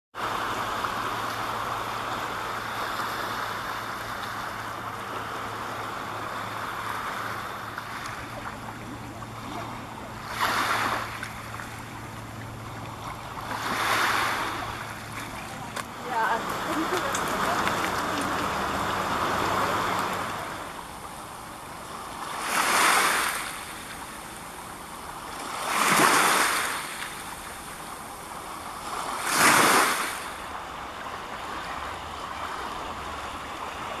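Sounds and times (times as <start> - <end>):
small waves washing on rocks: 0.2 - 30.7.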